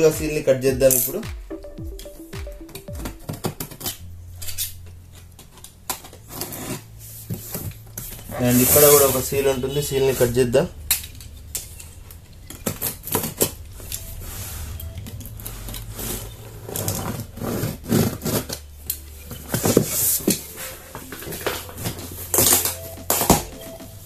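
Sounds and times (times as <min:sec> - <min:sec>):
steady low hum: 0:03.2 - 0:24.0.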